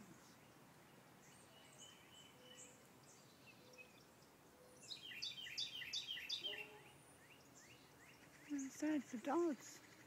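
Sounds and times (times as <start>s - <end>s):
songbirds calling softly: 0.0s - 10.0s.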